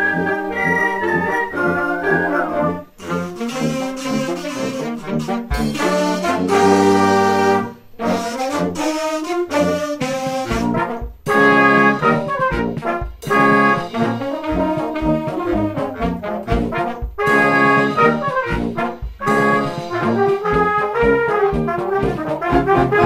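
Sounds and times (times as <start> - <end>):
wind band playing: 0.0 - 23.0.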